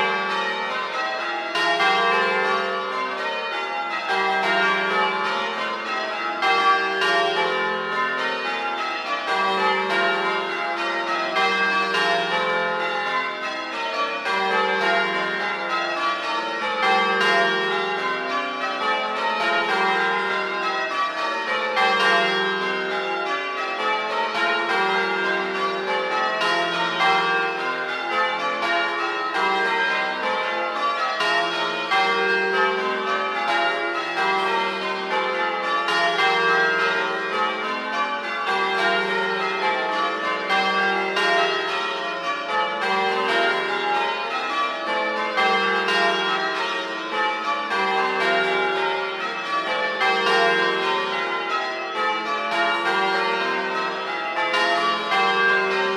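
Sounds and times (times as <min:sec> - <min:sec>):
church bells change ringing: 0:00.0 - 0:55.9.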